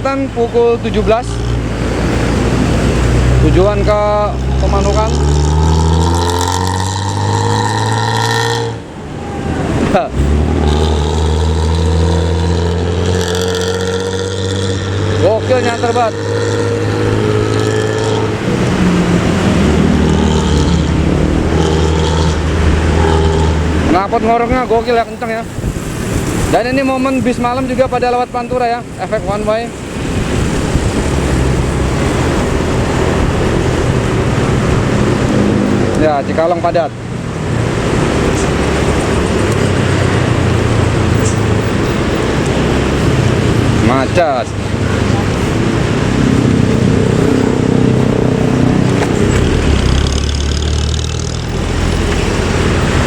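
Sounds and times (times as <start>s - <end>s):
bus engine drone: 0.0s - 53.0s
road noise: 0.0s - 53.0s.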